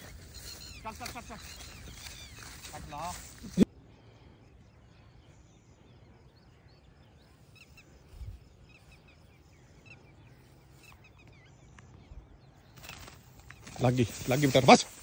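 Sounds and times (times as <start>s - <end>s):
faint bird chirps: 0.0s - 15.0s
field ambience: 0.0s - 15.0s.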